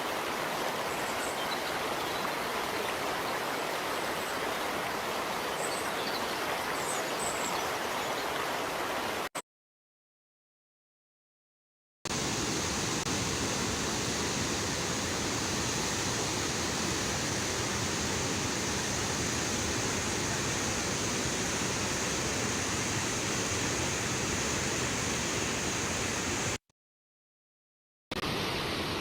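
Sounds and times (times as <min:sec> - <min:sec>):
floodwater rushing: 0:00.0 - 0:09.3, 0:12.2 - 0:26.6.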